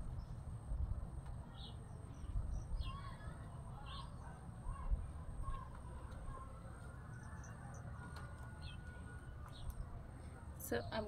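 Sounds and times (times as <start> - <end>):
small birds chirping: 0.0 - 0.6, 1.3 - 11.0
low steady background rumble: 0.0 - 11.0.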